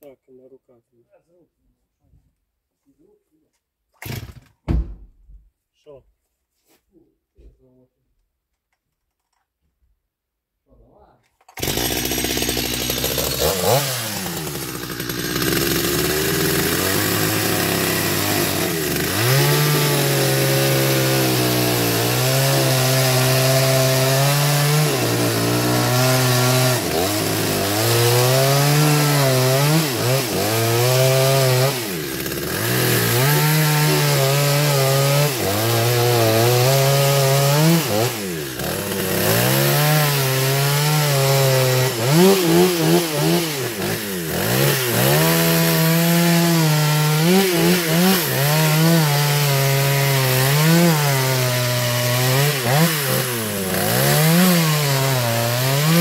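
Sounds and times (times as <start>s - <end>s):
chainsaw cutting wood: 4.0s - 4.6s, 11.4s - 56.0s.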